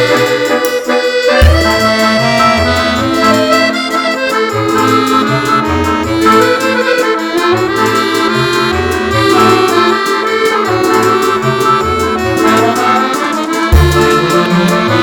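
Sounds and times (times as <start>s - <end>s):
accordion music: 0.0s - 15.0s
bass line: 1.4s - 15.0s.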